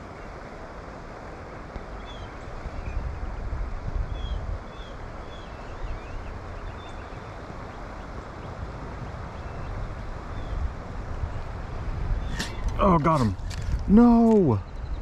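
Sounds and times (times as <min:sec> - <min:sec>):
outdoor hiss: 0:00.0 - 0:14.7
wind buffeting microphone: 0:00.0 - 0:15.0.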